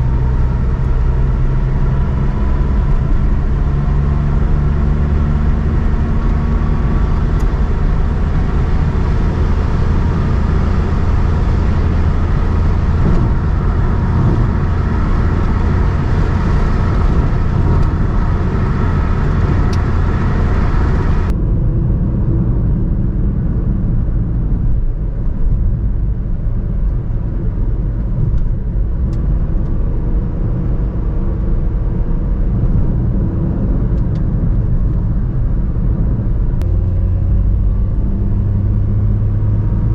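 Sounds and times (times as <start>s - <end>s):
car engine droning: 0.0s - 39.9s
tyre and road noise: 0.0s - 39.9s.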